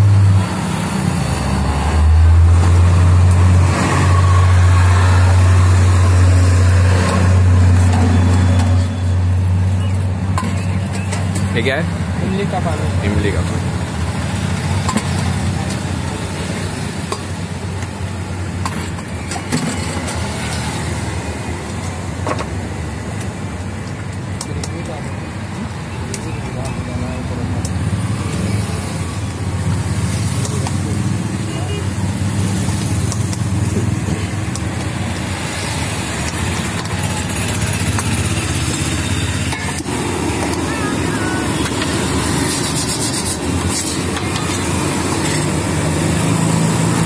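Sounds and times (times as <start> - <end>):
low rumble of road traffic: 0.0 - 47.0.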